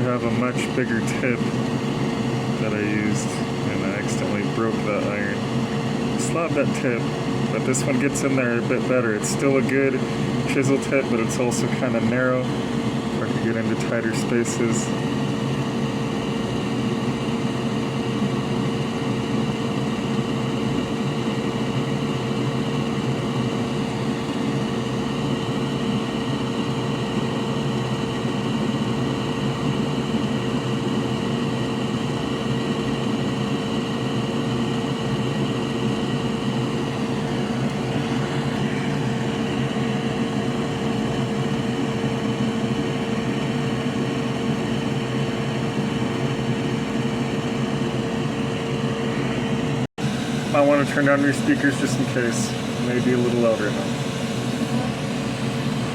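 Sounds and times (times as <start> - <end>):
electric fan motor hum: 0.0 - 55.9.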